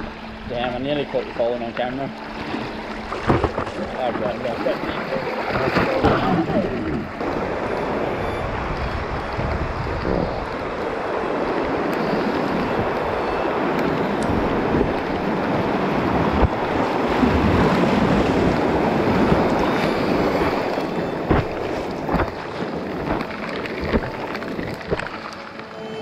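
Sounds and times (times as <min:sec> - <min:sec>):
river water rushing: 0:00.0 - 0:26.0
wind buffeting microphone: 0:02.1 - 0:25.6.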